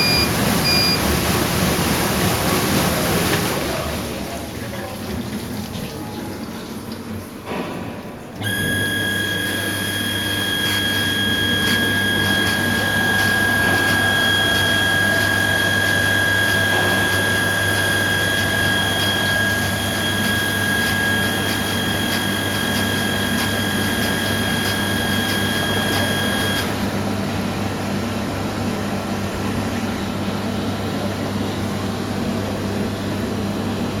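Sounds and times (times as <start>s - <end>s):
dishwasher pump humming: 0.0s - 34.0s.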